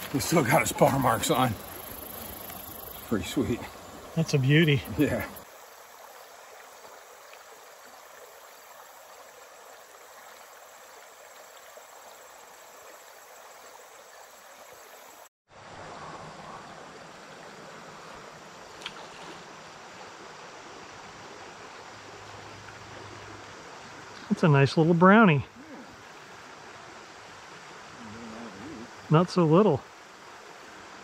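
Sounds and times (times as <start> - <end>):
creek water rushing over rocks: 0.0 - 31.0.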